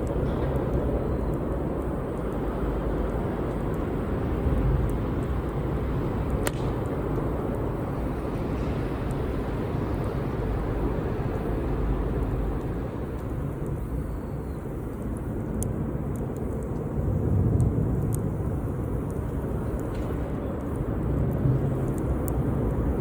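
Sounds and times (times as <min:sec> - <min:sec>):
campfire burning: 0:00.0 - 0:23.0
fire crackling and popping: 0:00.0 - 0:23.0.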